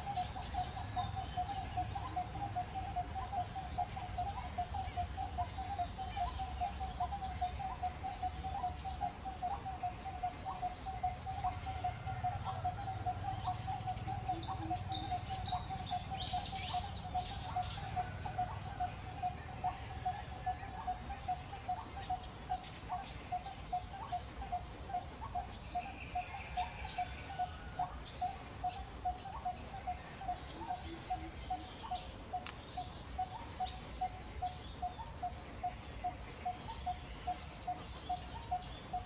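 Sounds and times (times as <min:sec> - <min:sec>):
bird chirps: 0:00.0 - 0:39.0
repeated low animal call: 0:00.0 - 0:39.0.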